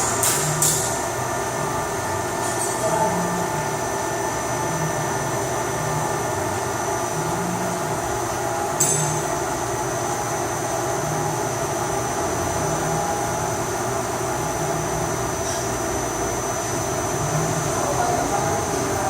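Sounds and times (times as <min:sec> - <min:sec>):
machine hum with low whine: 0:00.0 - 0:19.0.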